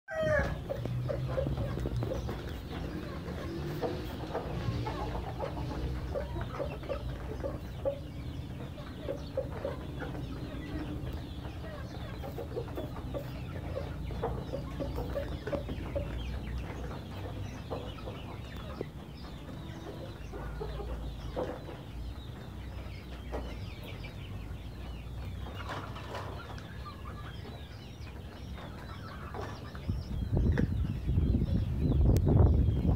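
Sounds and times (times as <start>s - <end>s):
chickens clucking: 0.1s - 32.9s.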